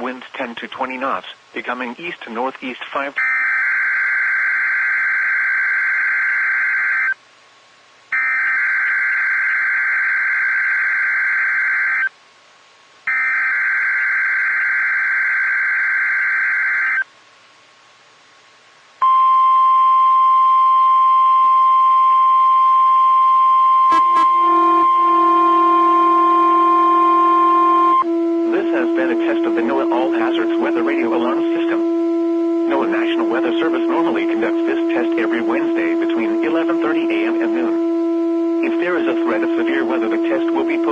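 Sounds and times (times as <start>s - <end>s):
steady warning alarm tone: 3.2s - 7.2s, 8.1s - 12.1s, 13.1s - 17.0s, 19.0s - 40.9s
low steady buzzing tone: 3.2s - 40.9s.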